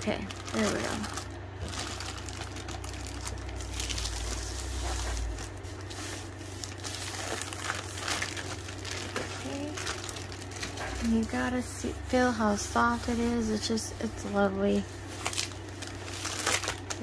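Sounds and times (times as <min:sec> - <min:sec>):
plastic sleeve crinkling: 0:00.0 - 0:17.0.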